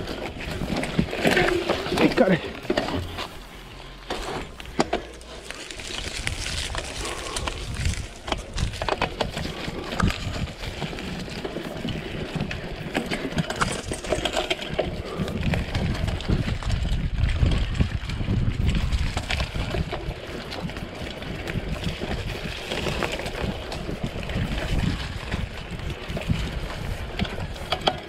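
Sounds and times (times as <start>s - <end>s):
bike rattles and clicks: 0.0s - 28.0s
bike tyres on dirt trail: 0.0s - 28.0s
wind rumbling on microphone: 5.4s - 28.0s.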